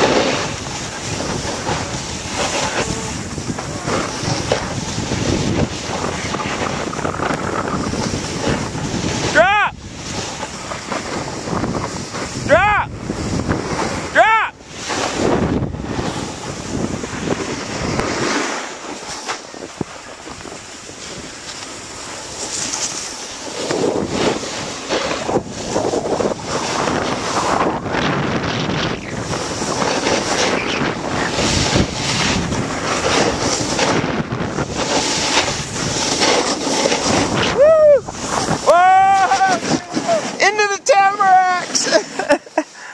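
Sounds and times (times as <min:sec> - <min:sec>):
edges scraping over packed snow: 0:00.0 - 0:14.1, 0:14.7 - 0:42.9
wind buffeting microphone: 0:00.0 - 0:42.3.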